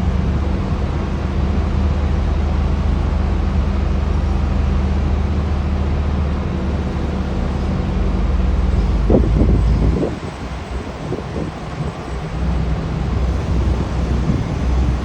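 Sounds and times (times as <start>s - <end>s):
heavy machinery engine running: 0.0s - 15.0s.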